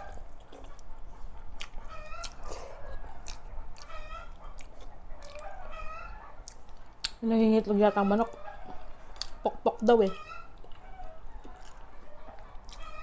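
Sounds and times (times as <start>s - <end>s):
hen clucking: 0.0s - 13.0s.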